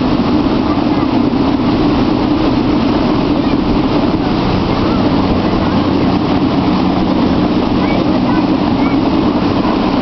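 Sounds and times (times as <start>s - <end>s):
motorboat engine running: 0.0s - 10.0s
water rushing from wake: 0.0s - 10.0s.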